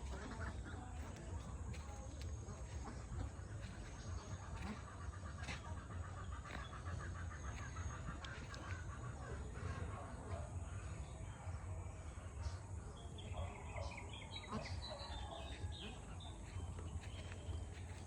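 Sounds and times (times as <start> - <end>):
ducks quacking: 0.0 - 18.0.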